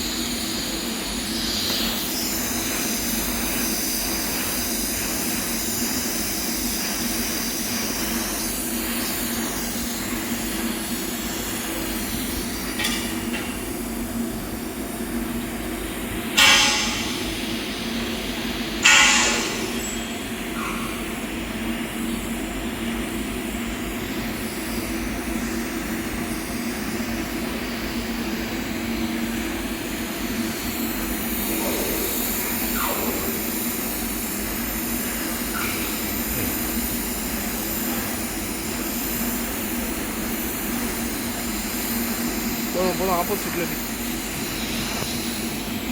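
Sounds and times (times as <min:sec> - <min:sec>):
welder humming and hissing: 0:00.0 - 0:45.9.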